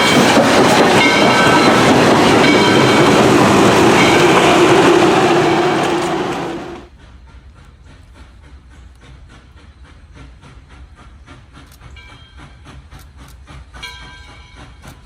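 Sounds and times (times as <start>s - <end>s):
steam train passing: 0.0s - 15.0s.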